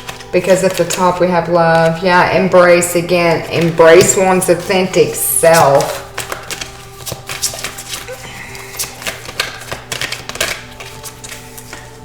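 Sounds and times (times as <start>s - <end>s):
cards clicking and tapping: 0.0s - 2.5s, 3.4s - 12.0s
background music with held tones: 0.0s - 12.0s.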